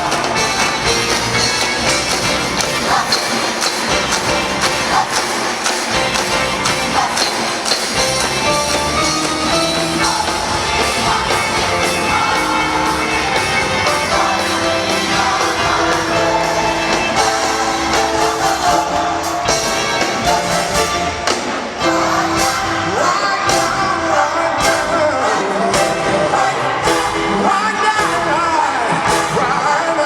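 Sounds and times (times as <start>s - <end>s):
steady drum beat: 0.0s - 29.7s
gospel choir singing: 0.0s - 30.0s
live band: 0.0s - 30.0s.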